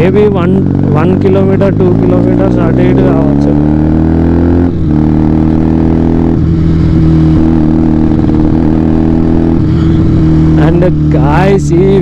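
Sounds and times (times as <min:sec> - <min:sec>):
motorcycle engine while riding: 0:00.0 - 0:12.0.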